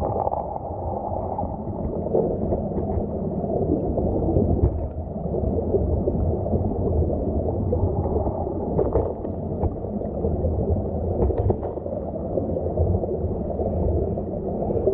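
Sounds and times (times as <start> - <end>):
underwater stream rush: 0.0 - 14.9.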